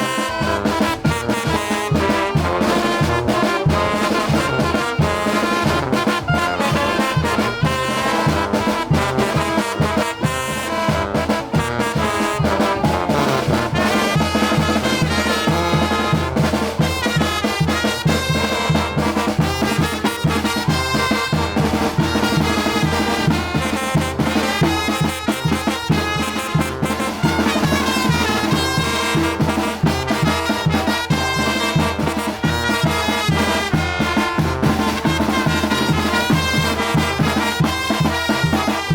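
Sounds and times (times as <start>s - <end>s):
brass band playing: 0.0s - 38.9s.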